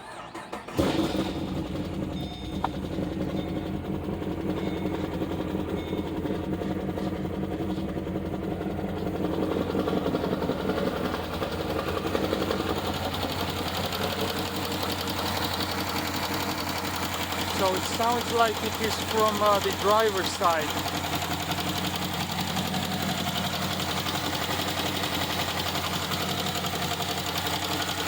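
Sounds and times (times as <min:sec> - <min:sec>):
car engine idling: 0:00.0 - 0:28.0
fast even engine ticking: 0:00.1 - 0:28.0.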